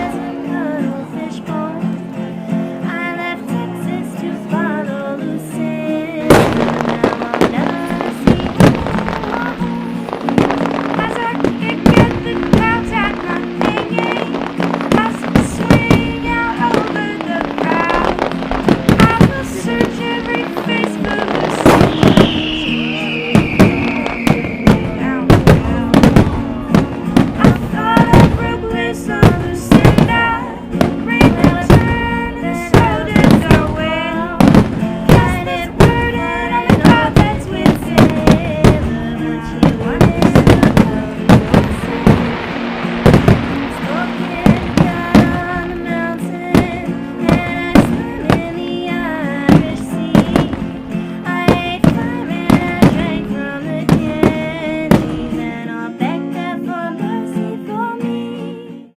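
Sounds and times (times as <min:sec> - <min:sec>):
music with gliding lead: 0:00.0 - 0:56.0
person singing: 0:00.0 - 0:59.0
fireworks bangs: 0:06.2 - 0:55.7.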